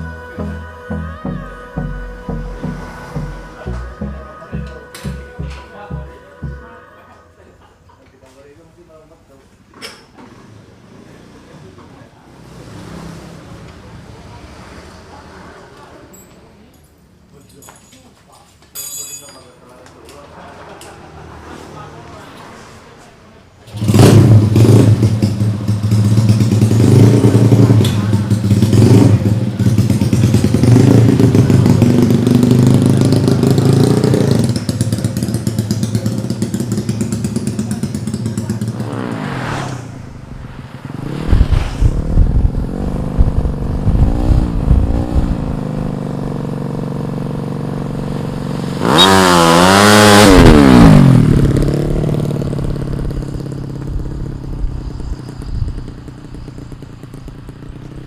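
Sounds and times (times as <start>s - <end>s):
motorcycle engine idling and revving: 0.0s - 6.8s, 9.7s - 17.3s, 20.1s - 58.0s.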